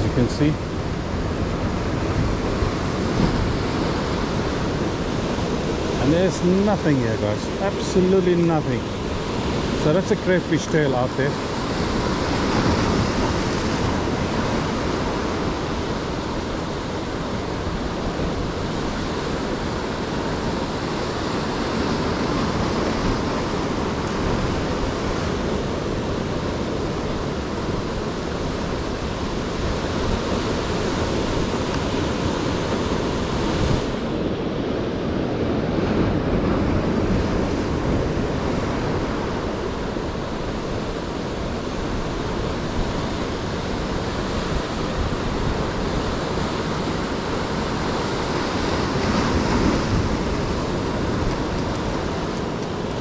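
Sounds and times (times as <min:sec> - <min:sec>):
wind on microphone: 0:00.0 - 0:08.1, 0:11.1 - 0:53.0
sea surf breaking over rocks: 0:00.0 - 0:53.0.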